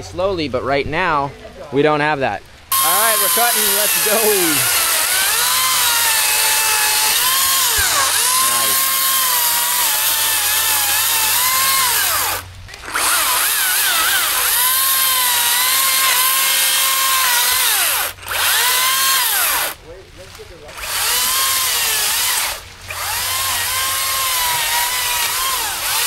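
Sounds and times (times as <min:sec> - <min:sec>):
power saw cutting wood: 0:02.7 - 0:19.8, 0:20.6 - 0:26.0.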